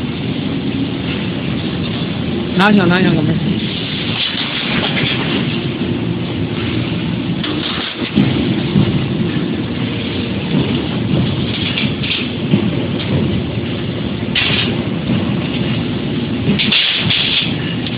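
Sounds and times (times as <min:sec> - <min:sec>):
rumbling workshop machinery: 0:00.0 - 0:17.9.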